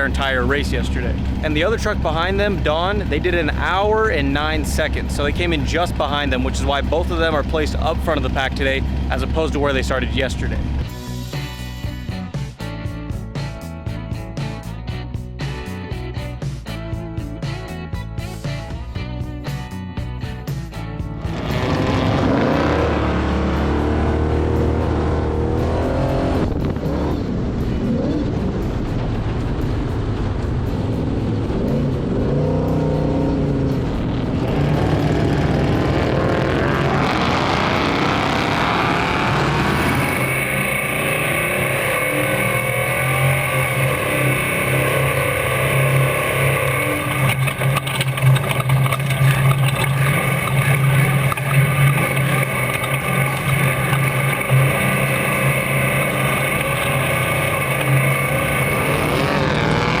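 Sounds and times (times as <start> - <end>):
race vehicle engines revving: 0.0 - 10.9, 21.2 - 60.0.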